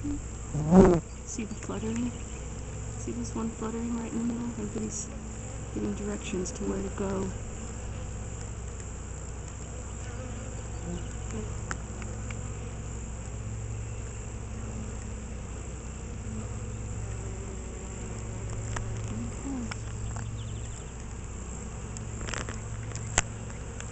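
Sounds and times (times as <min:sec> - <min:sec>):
bees buzzing: 0:00.0 - 0:23.9.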